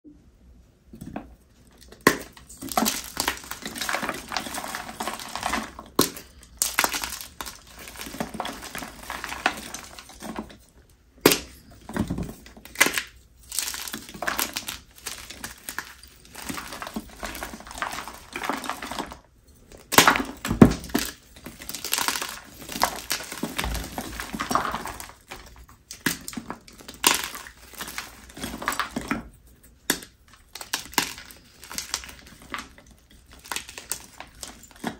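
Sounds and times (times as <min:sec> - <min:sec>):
chalk crushing and crumbling: 0:01.2 - 0:34.9.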